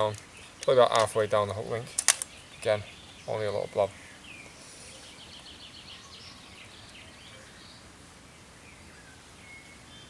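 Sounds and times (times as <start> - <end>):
outdoor background noise: 0.0 - 10.0
small birds chirping: 0.0 - 10.0.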